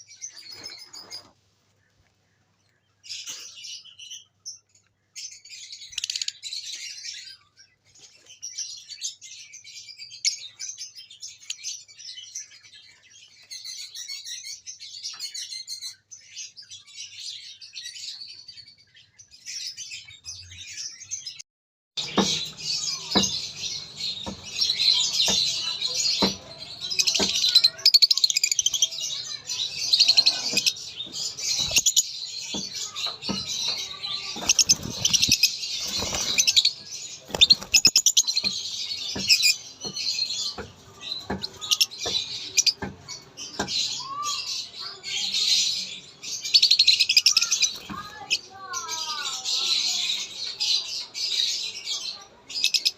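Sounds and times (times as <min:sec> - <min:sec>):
lovebirds chirping and squeaking: 0:00.0 - 0:21.4, 0:22.0 - 0:52.9.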